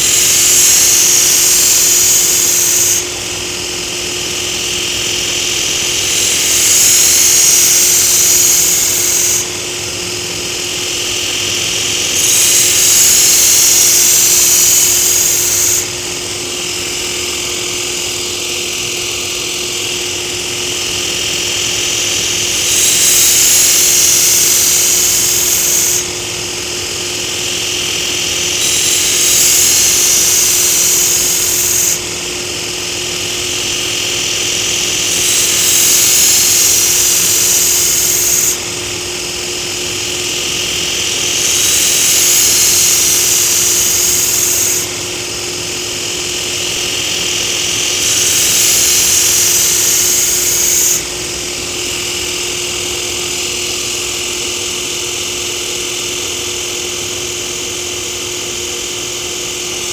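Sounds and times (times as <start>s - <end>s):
belt grinder humming: 0.0s - 59.9s
blade grinding hiss: 0.0s - 59.9s.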